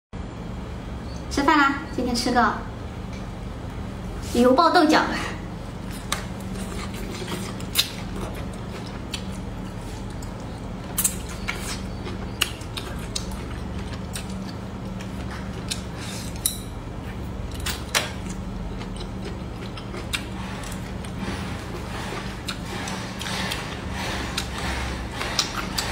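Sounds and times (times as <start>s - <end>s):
steady low hum: 0.2s - 25.9s.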